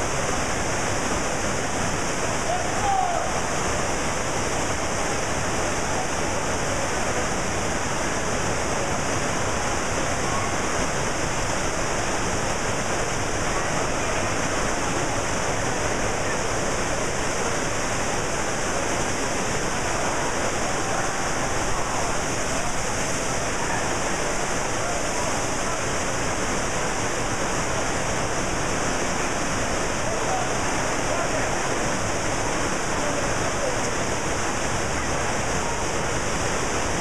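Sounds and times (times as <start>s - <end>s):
water rushing and spraying: 0.0s - 37.0s.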